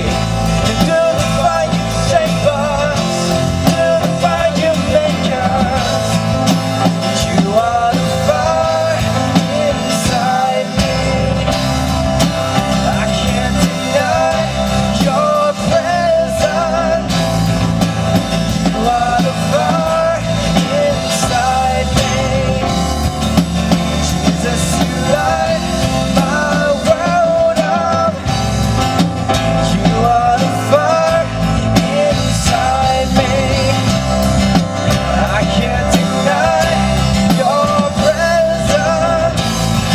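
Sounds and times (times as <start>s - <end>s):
rock music with drums: 0.0s - 39.9s.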